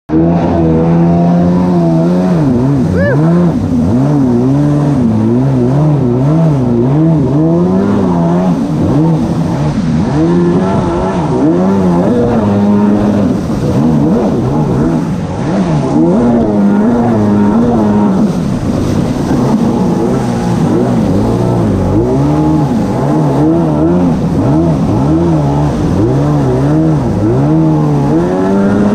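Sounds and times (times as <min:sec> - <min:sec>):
jet ski engine running hard: 0:00.1 - 0:28.9
water spray rushing: 0:00.5 - 0:28.9.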